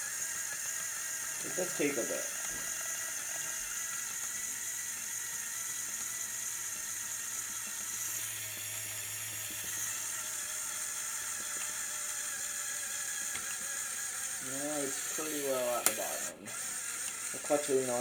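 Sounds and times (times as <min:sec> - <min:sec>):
small electric motor whirring through gears: 0:00.0 - 0:18.0.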